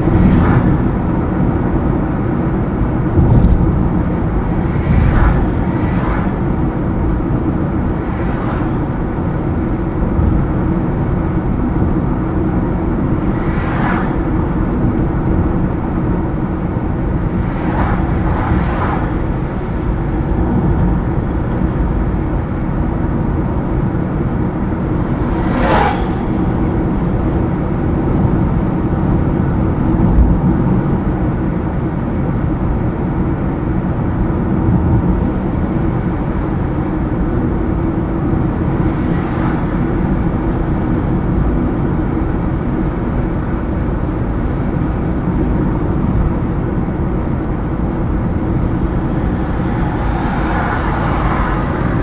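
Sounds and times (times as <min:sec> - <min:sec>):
tyre and engine rumble: 0:00.0 - 0:31.6, 0:36.8 - 0:52.0
passing traffic whooshes: 0:00.0 - 0:52.0.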